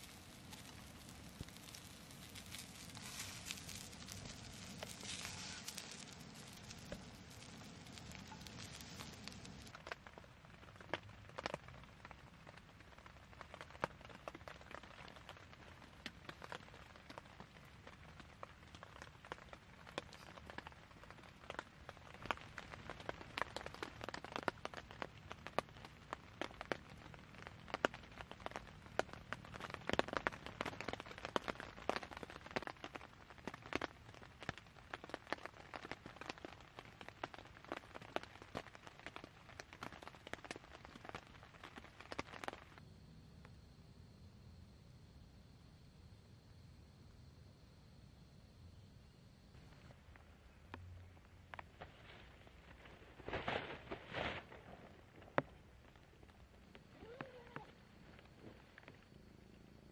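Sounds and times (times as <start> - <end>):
rain tapping on tent fabric: 0.0 - 43.0, 49.5 - 59.9.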